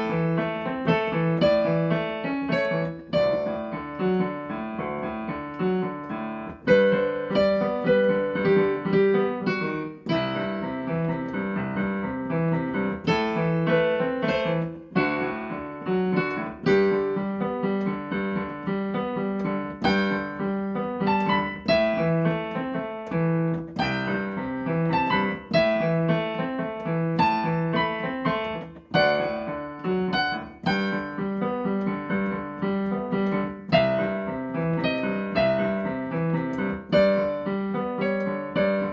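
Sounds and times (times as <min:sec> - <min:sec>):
piano melody with low chords: 0:00.0 - 0:38.9.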